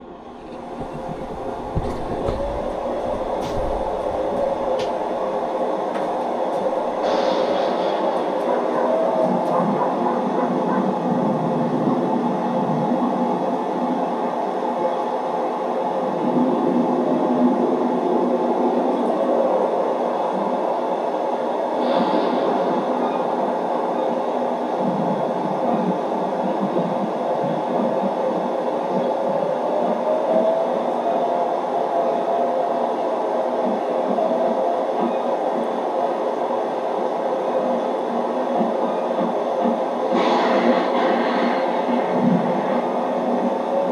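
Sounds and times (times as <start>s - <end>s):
train rumbling on rails: 0.0s - 43.9s.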